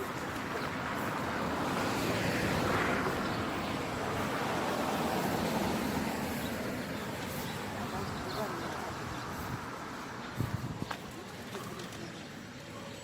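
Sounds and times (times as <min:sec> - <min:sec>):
vehicle passing by: 0:00.0 - 0:10.7.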